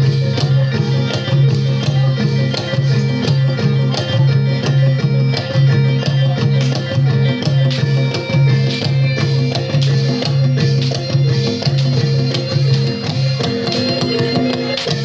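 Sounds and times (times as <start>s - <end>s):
drums: 0.0s - 15.0s
higher pitched instruments: 0.0s - 15.0s.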